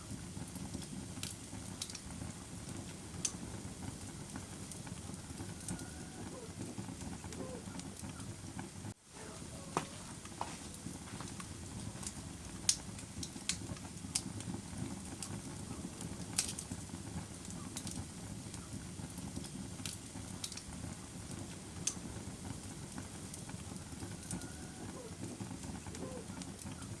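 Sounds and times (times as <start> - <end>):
fire crackles and pops: 0.0 - 27.0
fire rumbling: 0.0 - 27.0.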